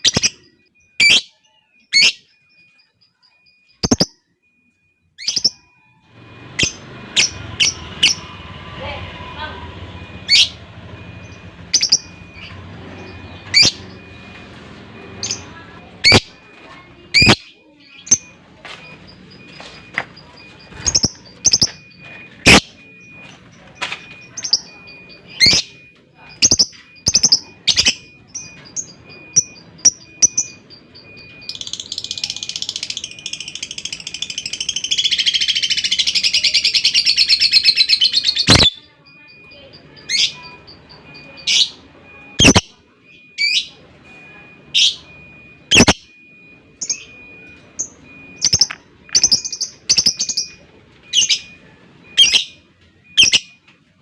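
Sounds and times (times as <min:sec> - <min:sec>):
rapid chattering bird trill: 0:00.0 - 0:04.2, 0:09.6 - 0:14.3, 0:15.1 - 0:43.8, 0:44.5 - 0:53.6
bird chirps: 0:00.0 - 0:09.0, 0:10.0 - 0:46.1, 0:46.8 - 0:53.6.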